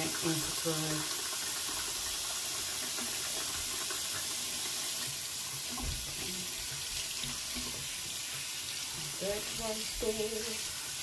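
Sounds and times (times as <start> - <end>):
sink tap running: 0.0 - 11.0.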